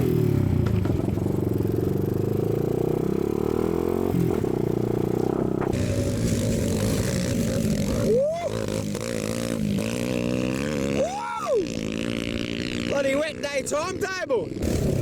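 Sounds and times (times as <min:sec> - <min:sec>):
motorbike engine running: 0:00.0 - 0:13.7.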